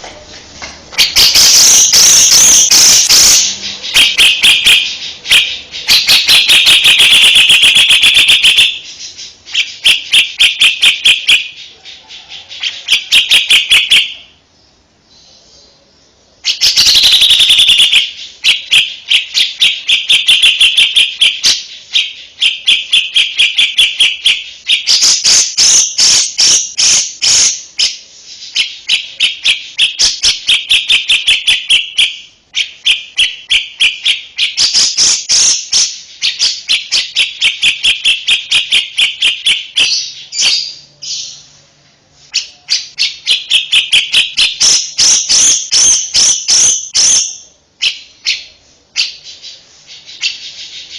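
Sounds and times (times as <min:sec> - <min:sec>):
small bird singing rapid chattering: 0:01.0 - 0:15.7, 0:16.4 - 0:41.6, 0:42.3 - 0:50.9.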